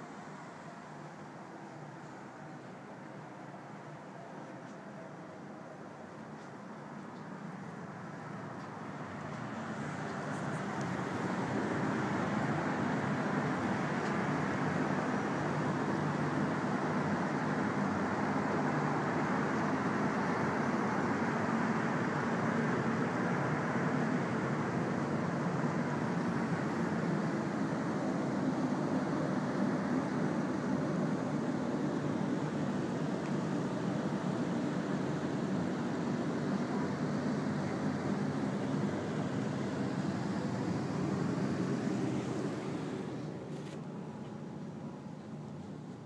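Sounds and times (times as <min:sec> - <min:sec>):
distant city traffic: 0:00.0 - 0:46.0.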